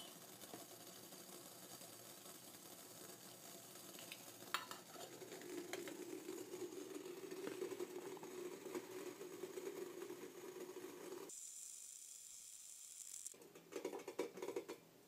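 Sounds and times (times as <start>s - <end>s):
water boiling in metal pot: 0.0s - 13.3s.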